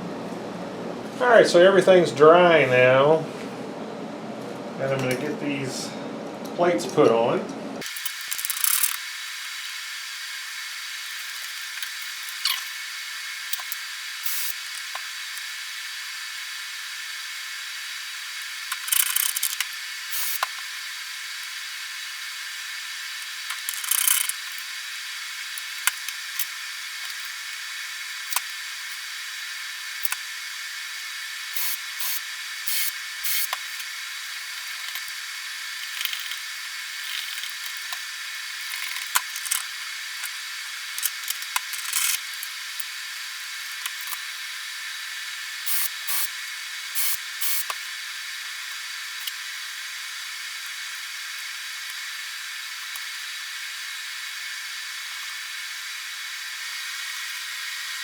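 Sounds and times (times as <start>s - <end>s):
steady hiss: 7.8s - 58.0s.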